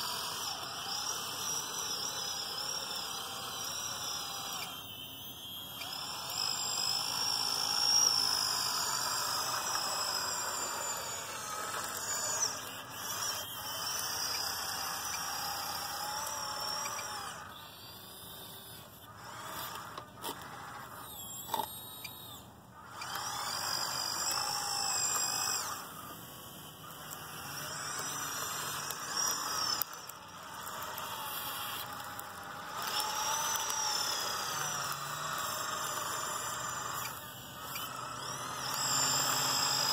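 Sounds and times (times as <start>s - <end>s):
sharp clicks: 0.0s - 18.4s, 19.2s - 39.9s
toy loader motors whining: 0.0s - 39.9s.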